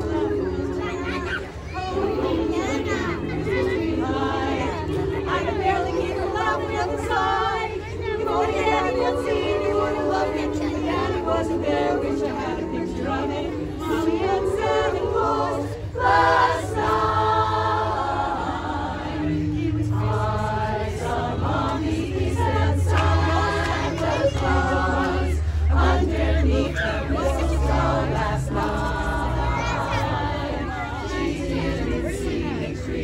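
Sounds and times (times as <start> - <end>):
women's chorus singing: 0.0 - 33.0.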